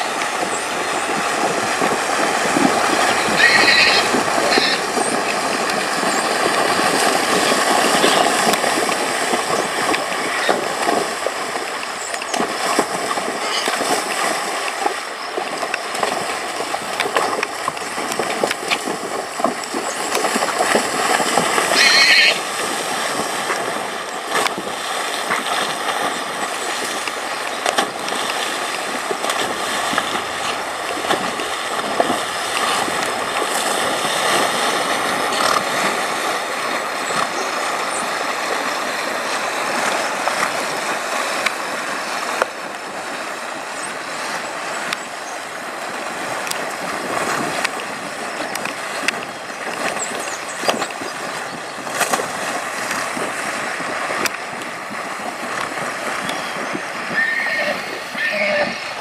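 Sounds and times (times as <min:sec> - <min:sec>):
sharp splashes: 0:00.0 - 0:59.0
water sloshing around horses' legs: 0:00.0 - 0:59.0.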